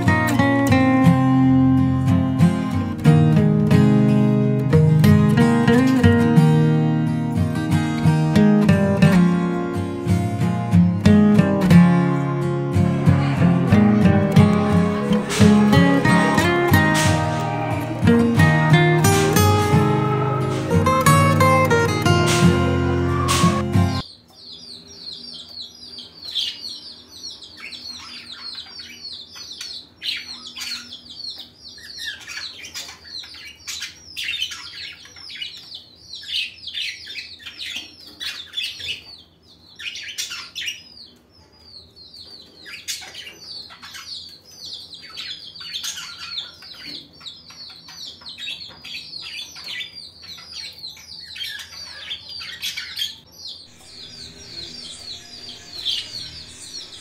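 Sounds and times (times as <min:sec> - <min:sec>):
budgerigar chirping and chattering: 0:08.4 - 0:57.0.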